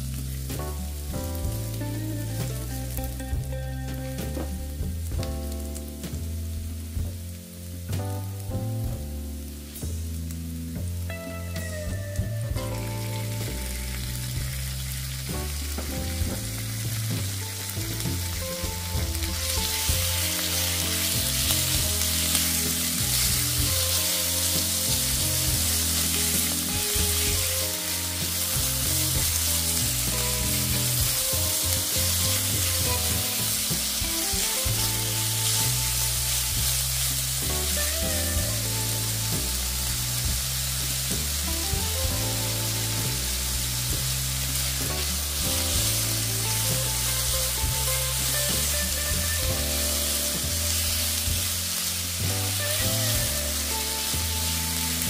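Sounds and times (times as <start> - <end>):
chicken sizzling in a wok: 0.0 - 55.0.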